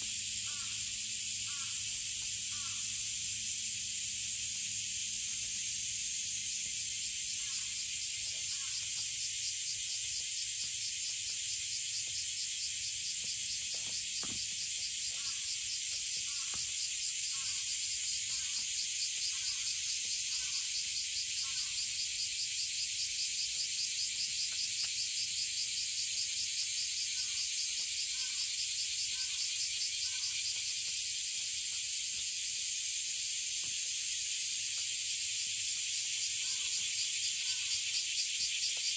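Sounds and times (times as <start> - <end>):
cicadas chorus: 0.0 - 38.9.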